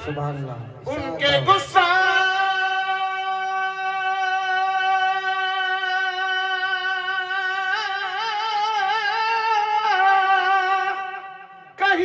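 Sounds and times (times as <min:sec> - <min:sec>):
man singing: 0:00.8 - 0:12.0.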